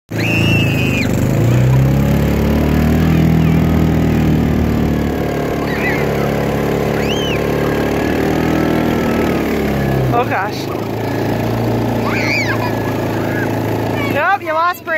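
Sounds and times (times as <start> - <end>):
atv engine running: 0.1 - 14.9.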